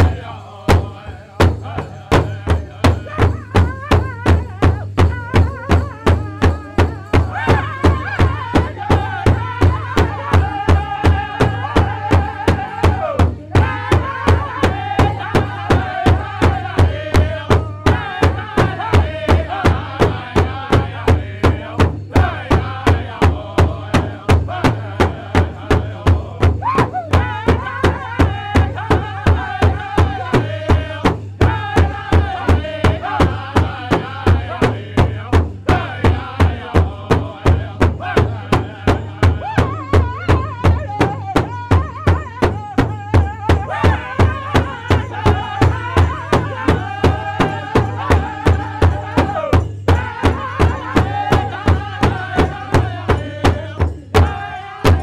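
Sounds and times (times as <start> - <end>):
big drum beating: 0.0 - 55.0
group of voices singing: 0.0 - 55.0.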